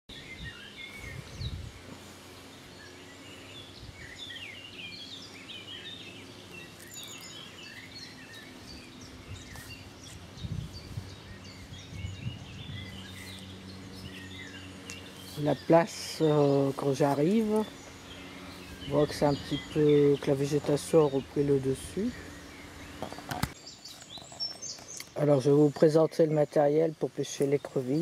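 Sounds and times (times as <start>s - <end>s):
faint outdoor hiss: 0.1s - 28.0s
small birds singing and chirping: 0.1s - 28.0s.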